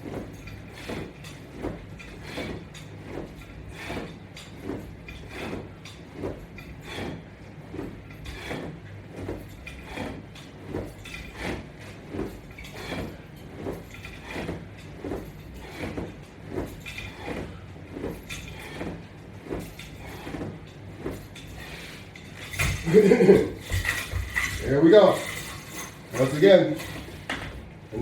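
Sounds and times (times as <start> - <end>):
strap creaking rhythmically: 0.0 - 28.0.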